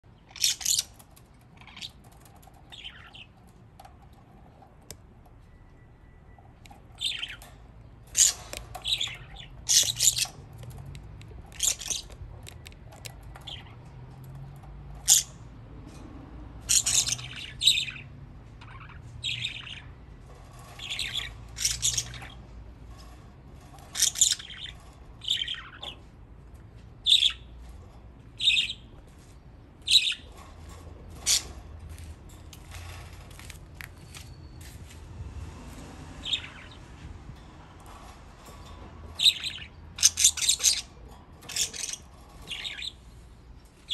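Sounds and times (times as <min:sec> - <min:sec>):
budgerigars chirping and squawking: 0:00.2 - 0:03.4, 0:06.7 - 0:16.0, 0:16.6 - 0:33.1, 0:36.2 - 0:43.9.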